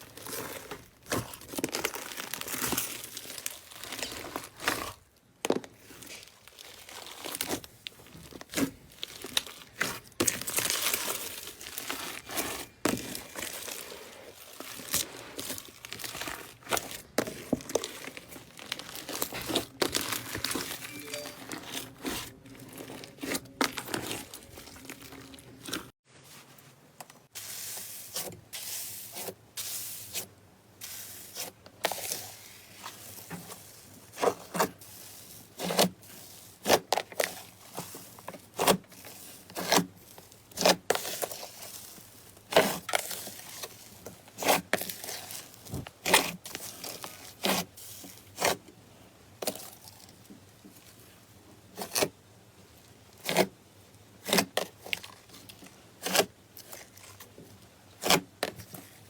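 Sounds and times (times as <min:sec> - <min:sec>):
slime crackling and crinkling: 0:00.0 - 0:26.5, 0:27.3 - 0:48.8, 0:49.4 - 0:59.0.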